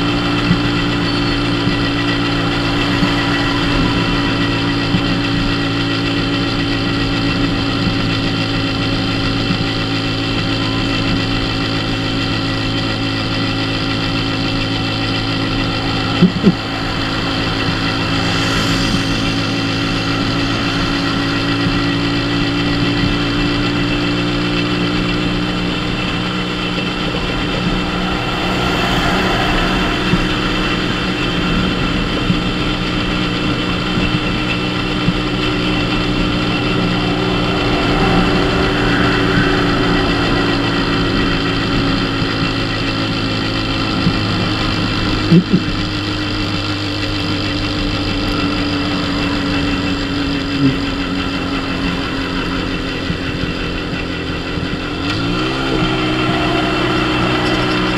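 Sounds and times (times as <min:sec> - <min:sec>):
passing traffic: 0:00.0 - 0:57.9
small motorcycle engine running: 0:00.0 - 0:57.9
wind and road noise: 0:00.0 - 0:57.9.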